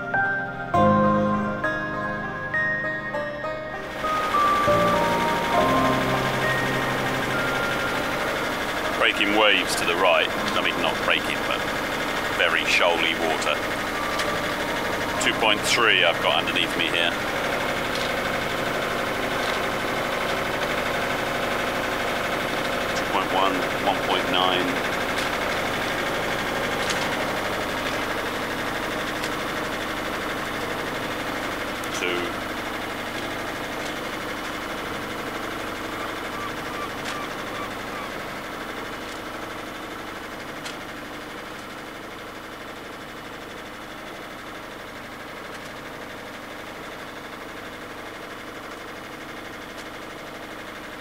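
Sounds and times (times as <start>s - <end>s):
boat inboard engine running: 3.7s - 51.0s.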